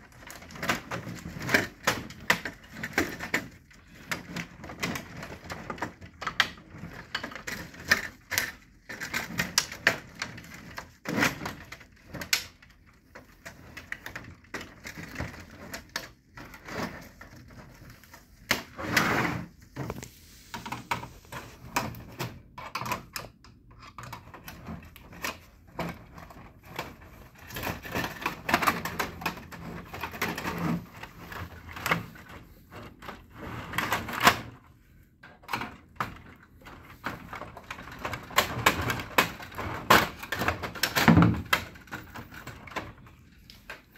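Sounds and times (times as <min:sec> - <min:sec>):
plastic cover clicking and creaking: 0:00.0 - 0:43.9.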